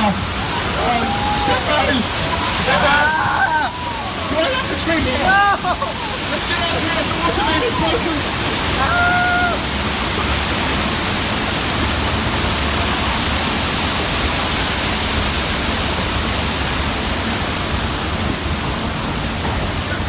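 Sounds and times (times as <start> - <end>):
water pouring loudly: 0.0 - 20.0.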